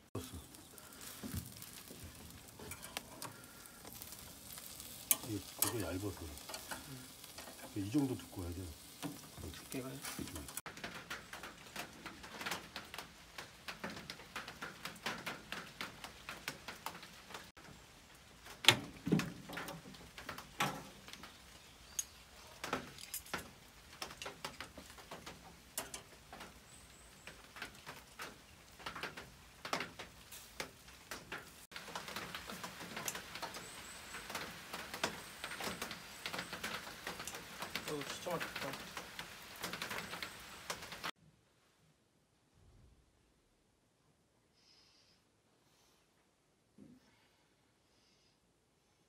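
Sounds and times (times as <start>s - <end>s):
meat and charcoal crackling: 0.0s - 41.2s
steady hiss: 0.0s - 41.2s.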